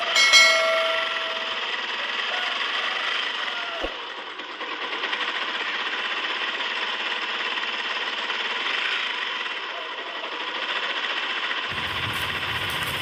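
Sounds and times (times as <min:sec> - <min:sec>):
small electric motor and gears: 0:00.0 - 0:13.0.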